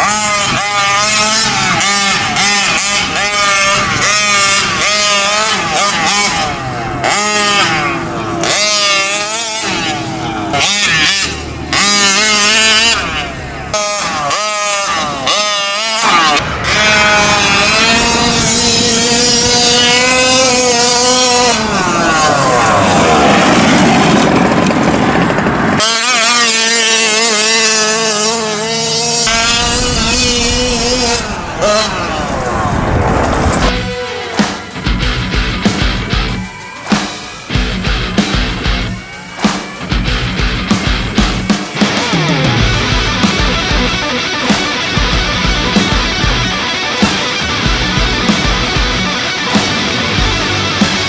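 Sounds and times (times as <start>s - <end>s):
two-stroke engine revving: 0.0s - 51.0s.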